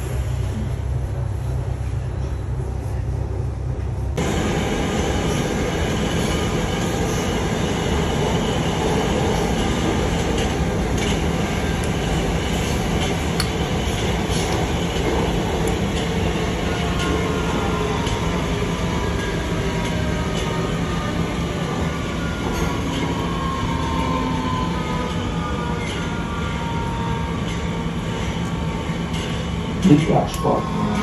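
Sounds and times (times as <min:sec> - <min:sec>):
metro train rumbling in tunnel: 0:00.0 - 0:31.0.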